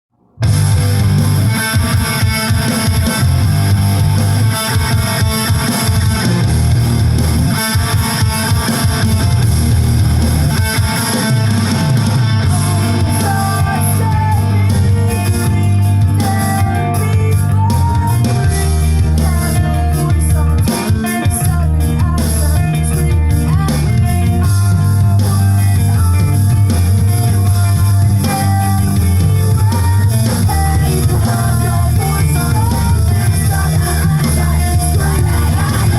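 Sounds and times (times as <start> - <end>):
rock music: 0.2 - 35.9.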